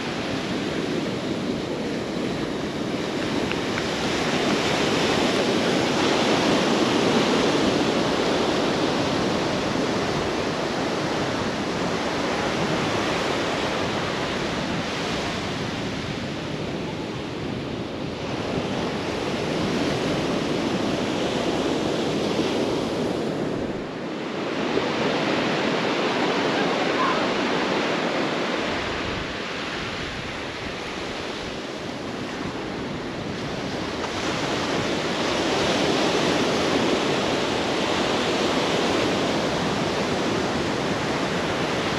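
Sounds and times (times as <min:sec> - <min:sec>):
ocean waves on sandy beach: 0:00.0 - 0:41.9
wind rumbling on microphone: 0:00.0 - 0:41.9.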